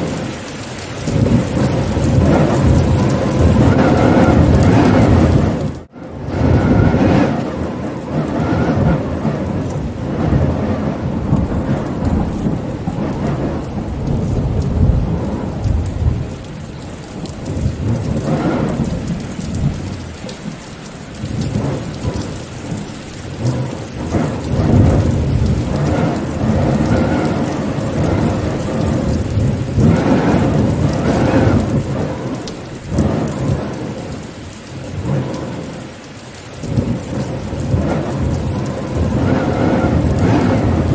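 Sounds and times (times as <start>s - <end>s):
rain falling: 0.0s - 40.9s
thunder rumbling: 0.0s - 40.9s.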